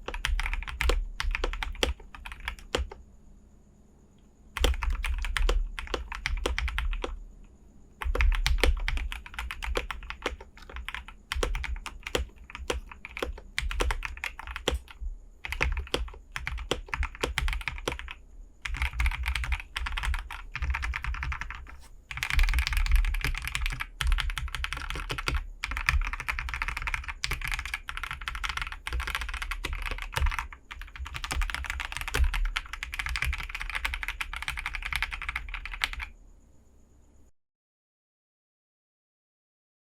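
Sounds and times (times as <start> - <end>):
mechanical keyboard typing: 0.0 - 3.0, 4.6 - 7.2, 8.0 - 36.1.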